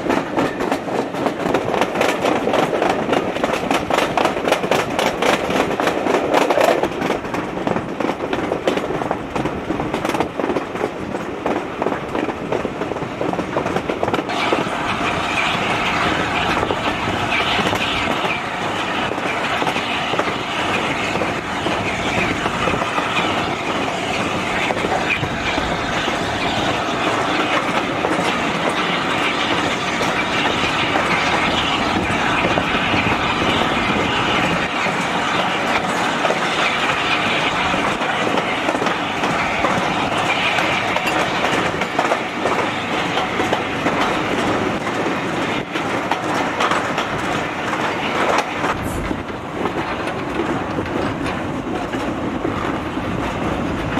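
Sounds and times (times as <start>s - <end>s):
clickety-clack of wheels: 0.0s - 53.9s
train rumble: 0.0s - 53.9s.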